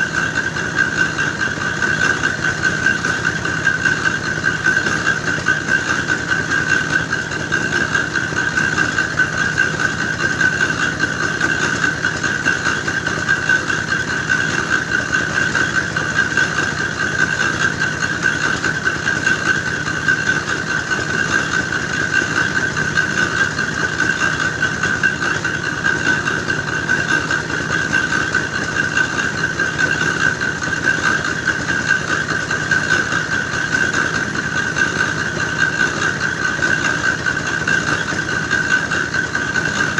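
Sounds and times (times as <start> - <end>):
grinding machine engine running: 0.0 - 39.9
high-pitched machine whine: 0.0 - 39.9.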